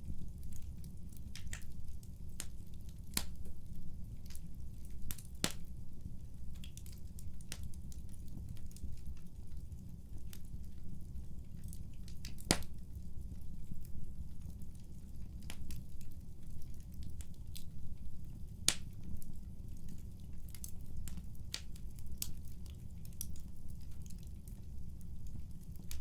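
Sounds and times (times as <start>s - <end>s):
wood fire crackling in fireplace: 0.0s - 26.0s.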